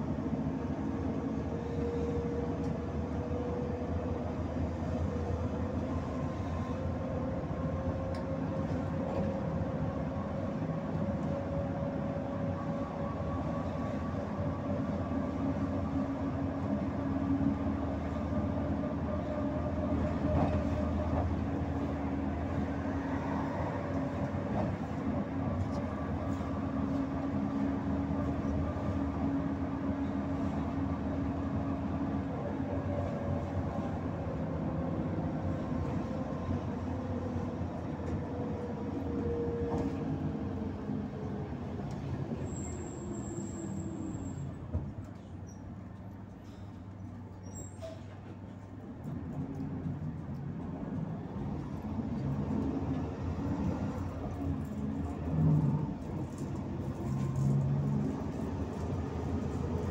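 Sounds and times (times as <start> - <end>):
bus drivetrain hum and whine: 0.0 - 59.9
road noise: 0.0 - 59.9.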